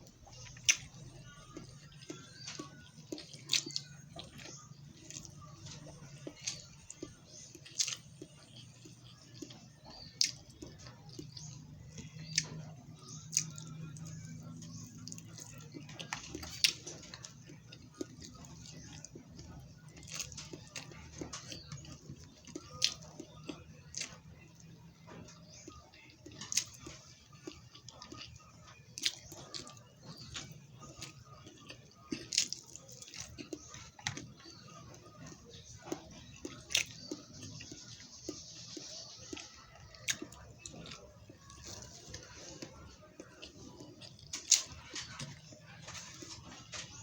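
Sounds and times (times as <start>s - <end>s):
wet chewing: 0.0s - 47.0s.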